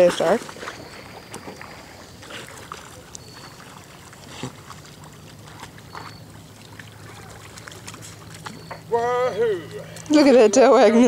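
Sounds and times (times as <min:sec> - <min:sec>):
water lapping and splashing: 0:00.0 - 0:11.0.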